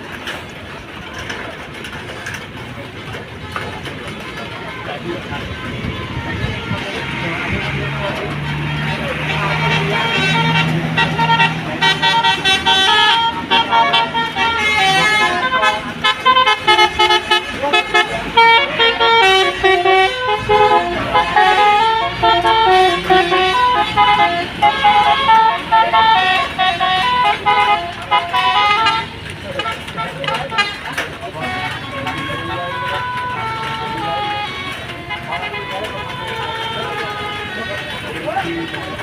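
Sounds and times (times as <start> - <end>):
multi-tone bus horn tune: 3.1 - 39.0.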